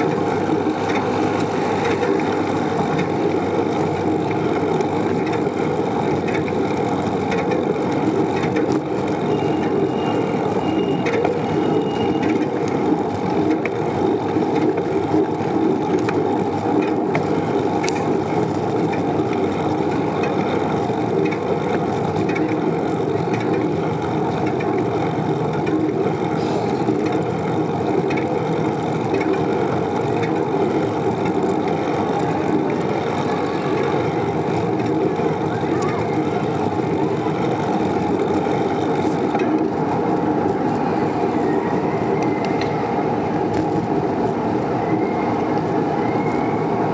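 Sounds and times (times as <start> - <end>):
bicycle tyres rolling on pavement: 0.0 - 46.9.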